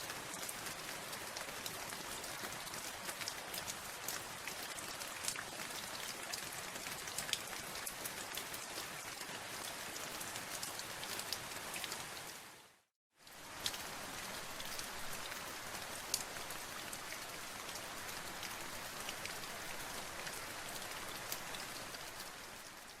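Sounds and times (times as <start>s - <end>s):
rain drops ticking on a surface: 0.0s - 23.0s.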